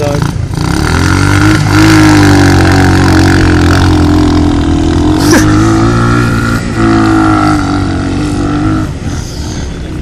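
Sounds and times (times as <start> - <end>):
off-road engine at high revs: 0.0 - 10.0.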